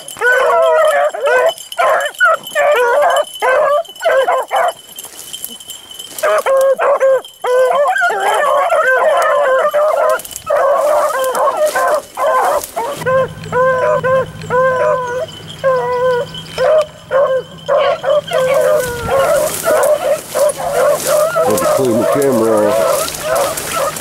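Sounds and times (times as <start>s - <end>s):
dogs baying: 0.0s - 24.0s.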